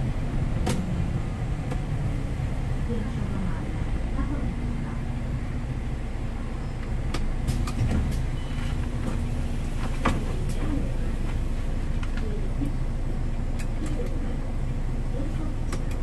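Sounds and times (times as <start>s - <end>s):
diesel bus engine idling: 0.0s - 16.0s.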